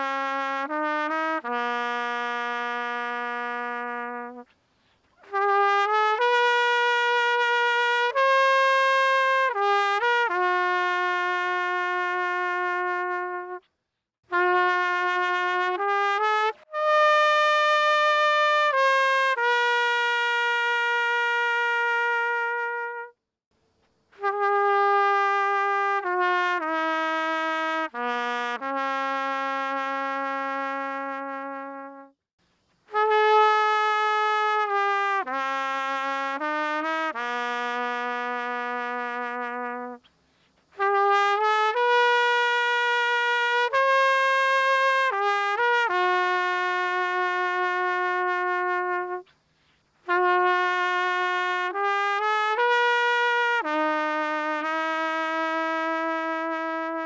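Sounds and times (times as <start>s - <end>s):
solo trumpet melody: 0.0s - 13.7s, 14.3s - 23.3s, 24.1s - 32.2s, 32.8s - 57.0s.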